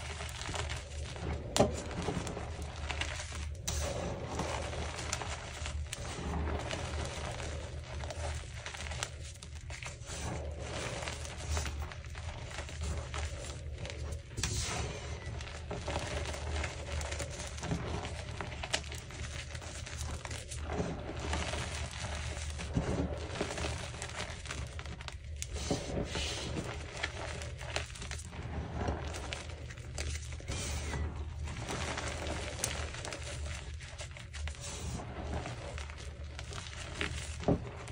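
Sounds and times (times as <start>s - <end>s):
chalk crunching and crumbling: 0.0s - 37.9s
steady low hum: 0.0s - 37.9s.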